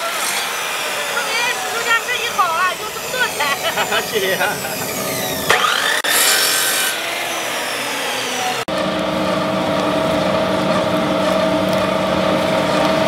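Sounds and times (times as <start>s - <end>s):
steady machine hum: 0.0s - 6.1s, 7.1s - 13.0s
cut-off saw screaming: 0.0s - 12.2s.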